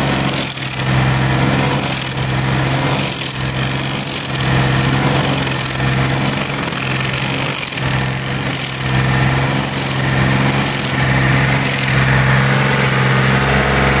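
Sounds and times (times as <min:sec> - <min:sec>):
stump grinder engine humming: 0:00.0 - 0:14.0
wheel grinding tree stump: 0:00.0 - 0:14.0.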